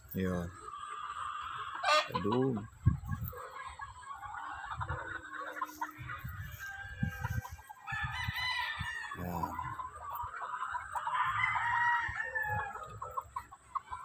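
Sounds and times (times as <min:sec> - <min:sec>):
birds clucking: 0:00.0 - 0:14.0
roosters crowing: 0:00.1 - 0:14.0.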